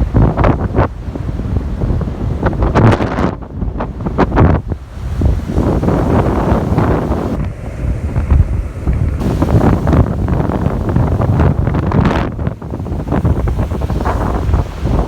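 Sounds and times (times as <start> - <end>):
ocean surf washing: 0.0 - 15.0
wind buffeting microphone: 0.0 - 15.0.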